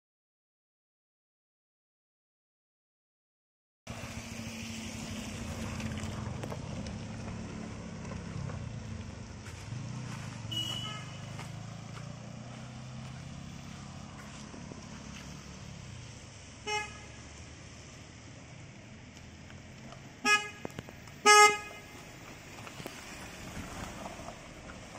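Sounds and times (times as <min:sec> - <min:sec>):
traffic on a wet road: 0:03.9 - 0:24.9.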